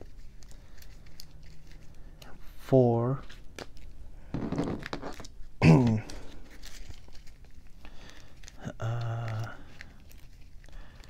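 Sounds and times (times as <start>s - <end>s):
cards rustling and clicking: 0.0s - 11.0s.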